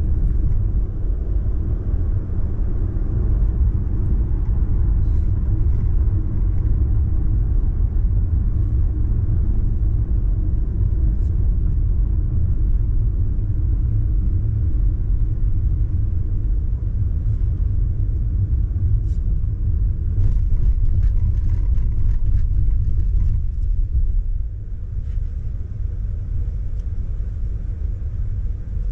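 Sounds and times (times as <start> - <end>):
road and tyre rumble in car: 0.0 - 28.9.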